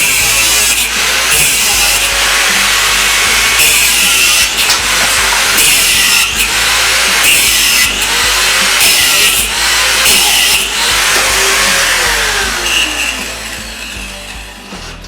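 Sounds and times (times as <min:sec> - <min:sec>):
angle grinder cutting: 0:00.0 - 0:15.0.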